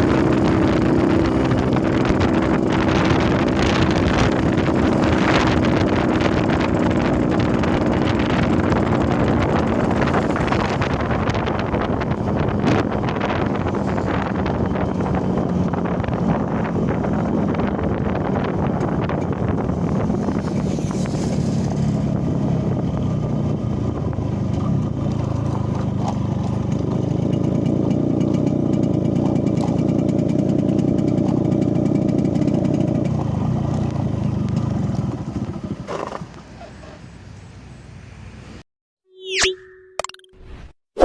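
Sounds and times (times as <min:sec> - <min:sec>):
motorcycle engine running: 0:00.0 - 0:36.6.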